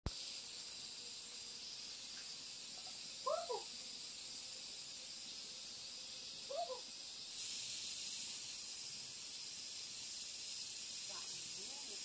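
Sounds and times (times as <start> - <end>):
high-pitched insect chorus: 0.1 - 12.0.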